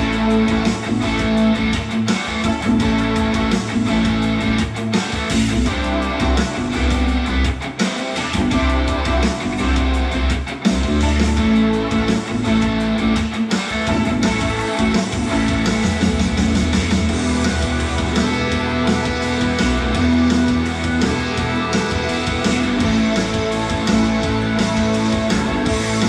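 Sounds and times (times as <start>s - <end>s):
guitar-driven music: 0.0s - 26.0s.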